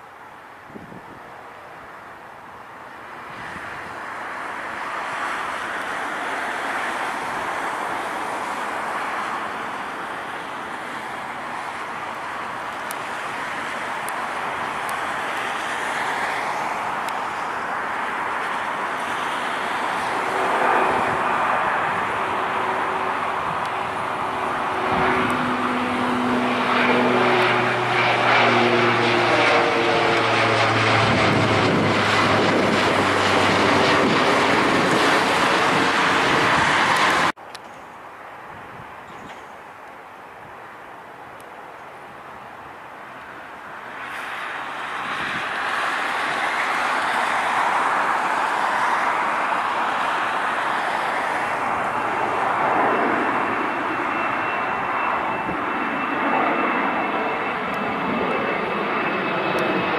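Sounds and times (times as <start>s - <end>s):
turboprop airliner propeller drone: 0.0s - 37.7s, 38.4s - 59.9s.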